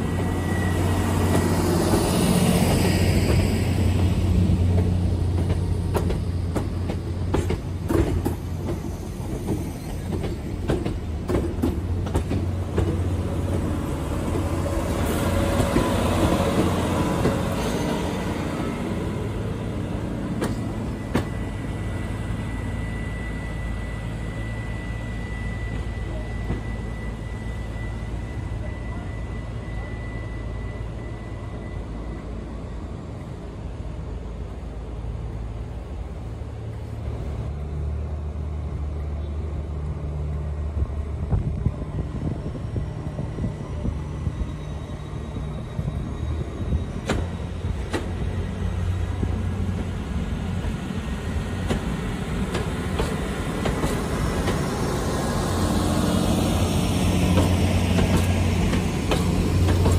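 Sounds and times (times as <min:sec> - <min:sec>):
train running low hum: 0:00.0 - 0:59.9.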